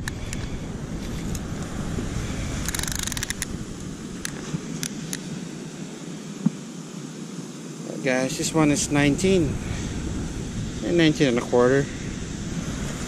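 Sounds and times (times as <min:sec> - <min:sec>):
wind and surf rumble: 0:00.0 - 0:13.0.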